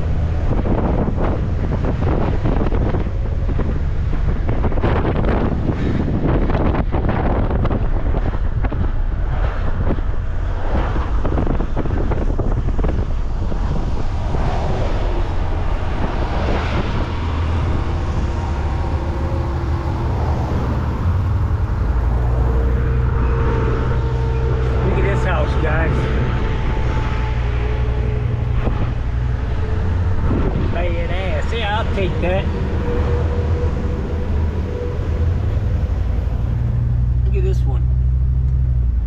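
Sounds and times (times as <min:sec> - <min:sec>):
car driving rumble: 0:00.0 - 0:39.0
wind buffeting microphone: 0:00.0 - 0:39.0.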